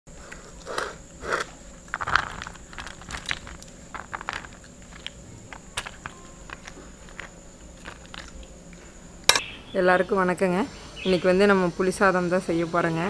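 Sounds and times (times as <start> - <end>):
faint high whine: 0.1 - 13.0.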